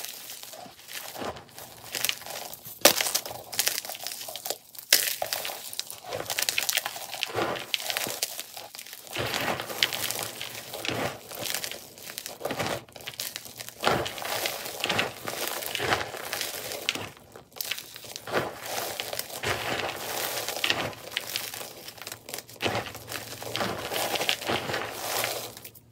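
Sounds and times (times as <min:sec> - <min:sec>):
chalk crushing and crackling: 0:00.0 - 0:25.9.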